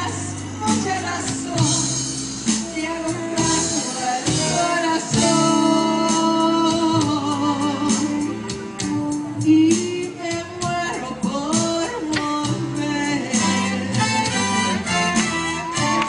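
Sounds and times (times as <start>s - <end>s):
amplified instrumental backing: 0.0s - 16.0s
woman singing into a microphone: 0.0s - 16.0s.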